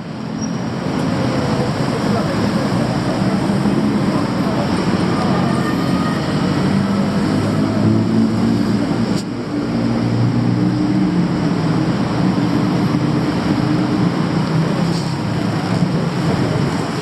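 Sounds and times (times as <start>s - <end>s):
traffic engines humming: 0.0s - 17.0s.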